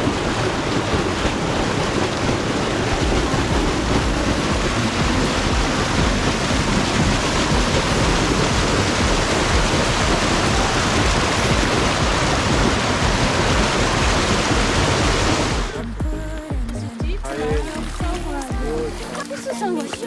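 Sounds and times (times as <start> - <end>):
waterfall rushing water: 0.0 - 20.0.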